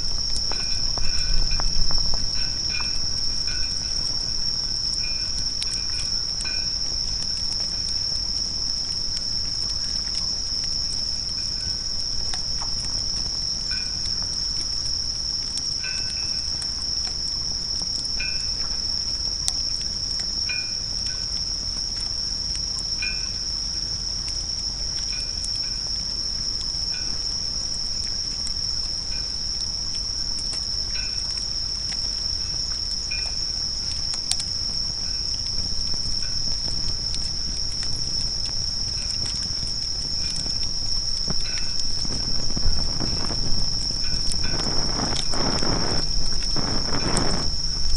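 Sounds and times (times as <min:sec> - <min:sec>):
insects trilling: 0:00.0 - 0:47.9
faint ticks: 0:00.2 - 0:47.9.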